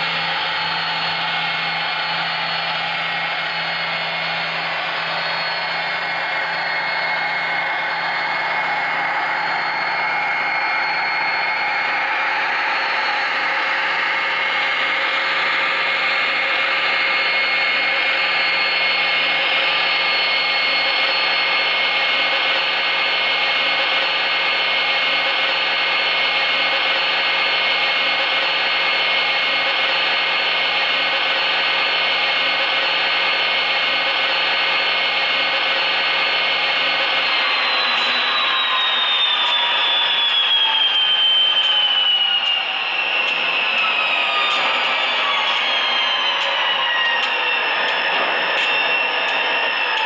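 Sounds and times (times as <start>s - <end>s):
diesel engine drone with whine: 0.0s - 50.0s.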